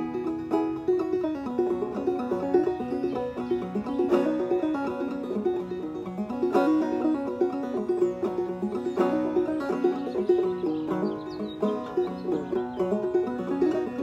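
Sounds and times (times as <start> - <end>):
banjo playing: 0.0 - 14.0.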